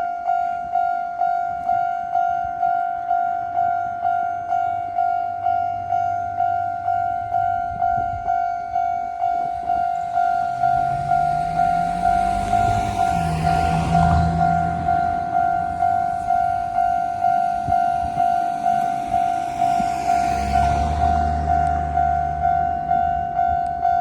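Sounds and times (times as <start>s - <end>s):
level-crossing warning bell: 0.0s - 24.0s
train approaching rumble: 1.3s - 24.0s.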